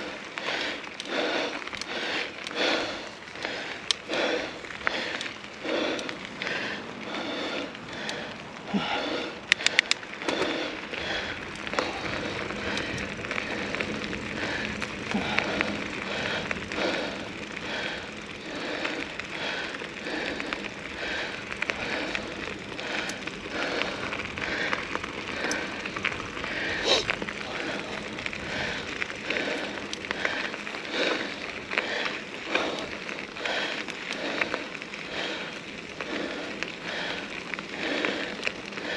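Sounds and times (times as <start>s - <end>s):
bike rattling: 0.0s - 38.9s
bike tyres crunching on dirt: 0.0s - 38.9s
sharp bike clicks: 0.0s - 38.9s.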